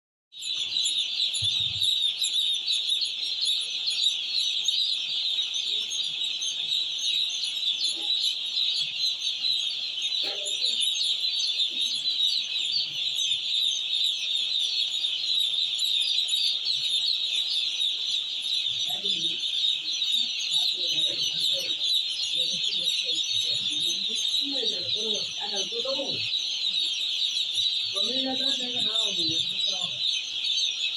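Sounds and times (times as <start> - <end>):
chicks cheeping: 0.4 - 30.9
hen clucking: 0.4 - 30.9.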